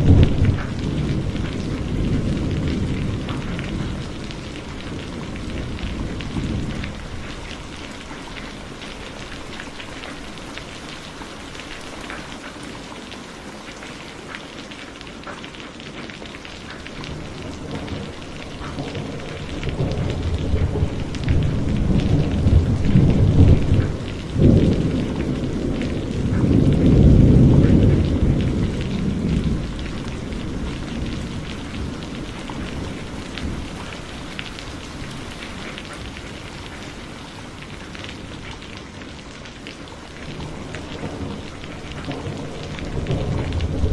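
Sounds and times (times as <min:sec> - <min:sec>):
rolling thunder rumble: 0:00.0 - 0:12.2, 0:16.7 - 0:39.1, 0:39.8 - 0:43.9
heavy rain falling: 0:00.0 - 0:43.9.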